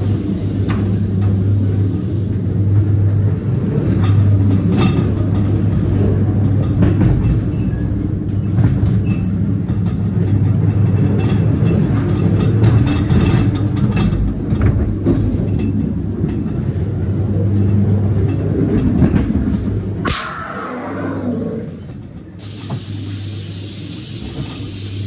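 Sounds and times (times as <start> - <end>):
ride car rumbling on track: 0.0 - 25.0
wheels rattling and clattering: 0.0 - 25.0.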